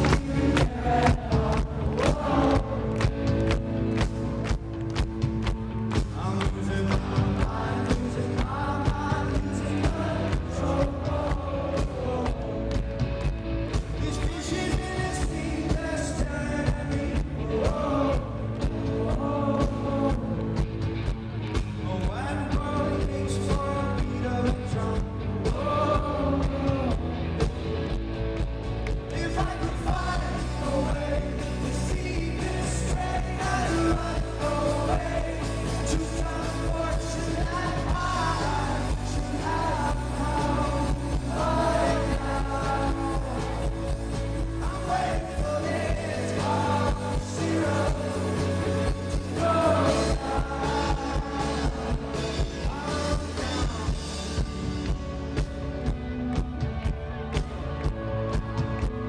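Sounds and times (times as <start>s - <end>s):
man singing lead vocal: 0.0s - 3.7s, 5.9s - 13.0s, 13.7s - 20.8s, 21.8s - 27.5s, 29.0s - 54.6s
rock band playing live: 0.0s - 59.0s.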